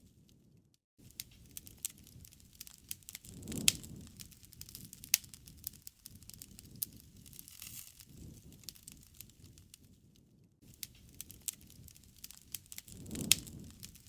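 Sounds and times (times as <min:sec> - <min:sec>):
bonfire crackling and popping: 0:01.0 - 0:14.0.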